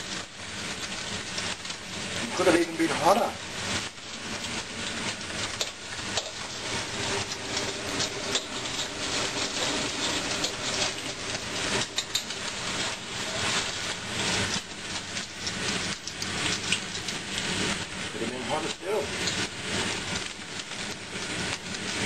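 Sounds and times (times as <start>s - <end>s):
egg sizzling in hot oil: 0.0s - 22.0s.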